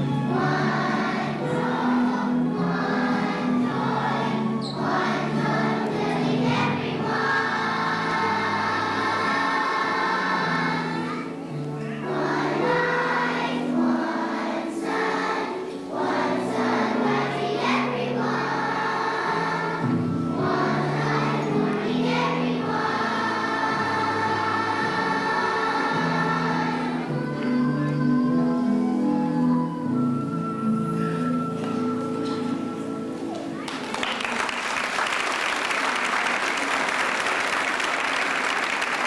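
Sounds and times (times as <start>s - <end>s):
children's choir singing: 0.0s - 39.0s.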